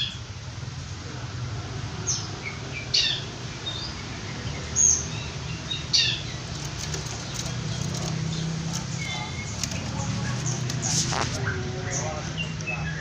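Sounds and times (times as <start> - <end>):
soft bird chirps: 2.0 - 13.0.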